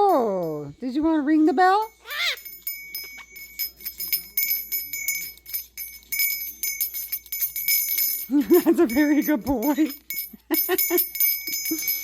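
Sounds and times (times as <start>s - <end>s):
small bell ringing: 1.6s - 12.0s.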